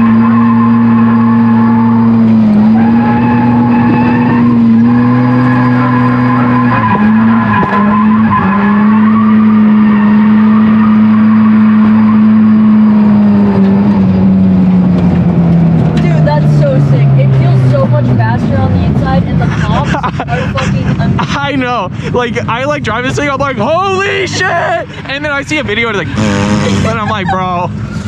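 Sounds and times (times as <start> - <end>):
rotary engine at high revs: 0.0 - 21.5, 22.5 - 28.0
tyres skidding: 0.0 - 28.0.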